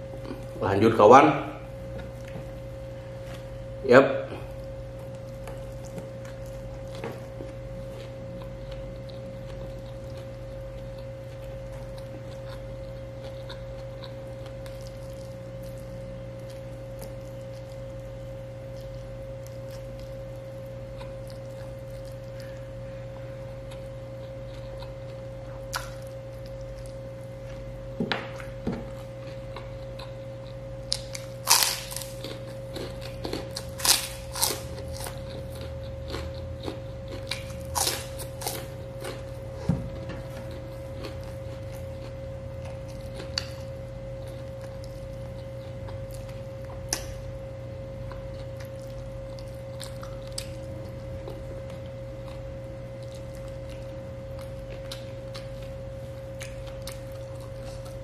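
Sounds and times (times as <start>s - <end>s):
electrical hum: 0.0s - 58.0s
man chewing and smacking: 4.4s - 22.6s, 23.6s - 39.6s, 40.2s - 47.2s, 47.9s - 58.0s.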